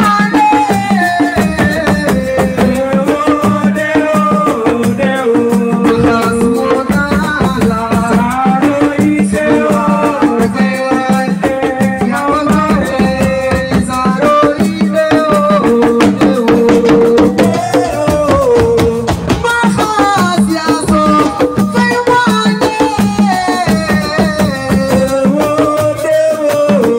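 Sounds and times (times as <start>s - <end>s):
hand drums and shakers: 0.0s - 26.9s.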